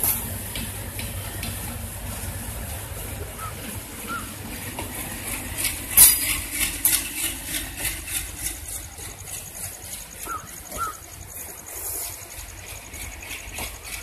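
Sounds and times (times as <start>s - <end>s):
train wheels clicking over joints: 0.0s - 14.0s.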